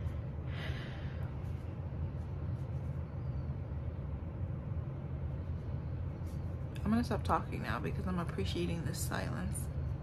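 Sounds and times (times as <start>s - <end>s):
low rumbling hum: 0.0s - 10.0s.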